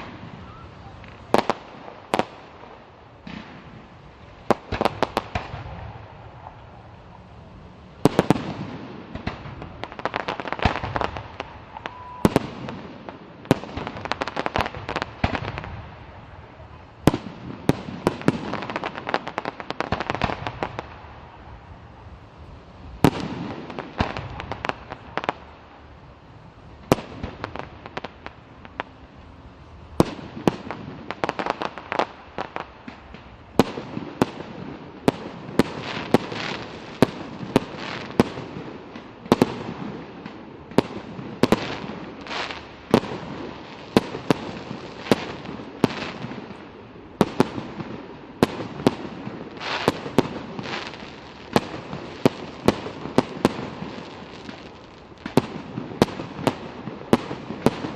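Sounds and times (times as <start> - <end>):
fireworks bangs: 0.0 - 21.4, 22.9 - 25.9, 30.0 - 57.9
fireworks crackling: 0.0 - 57.9.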